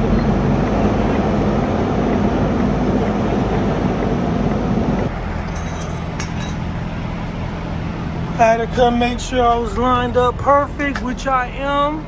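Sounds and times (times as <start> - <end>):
diesel truck engine humming: 0.0 - 12.0.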